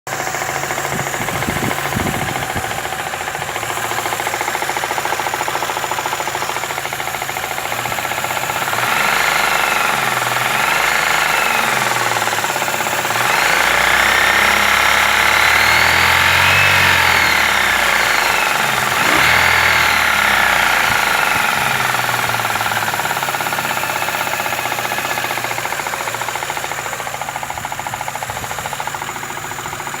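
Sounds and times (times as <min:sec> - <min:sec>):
knocking engine revving: 0:00.1 - 0:30.0.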